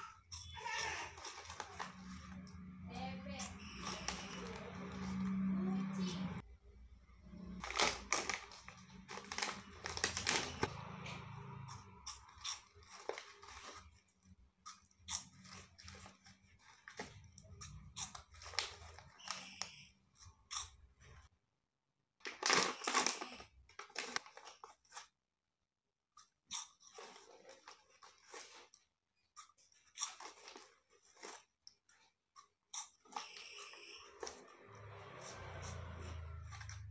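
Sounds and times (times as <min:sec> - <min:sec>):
crunchy snacks being chewed: 0:00.0 - 0:05.5, 0:07.3 - 0:21.3, 0:22.3 - 0:25.1, 0:26.2 - 0:36.9.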